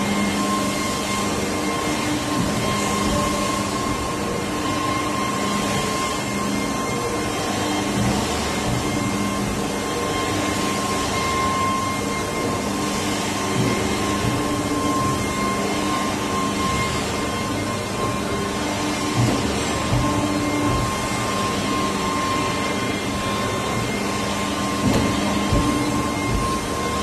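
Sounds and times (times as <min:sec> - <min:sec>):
machinery humming with whine: 0:00.0 - 0:27.0.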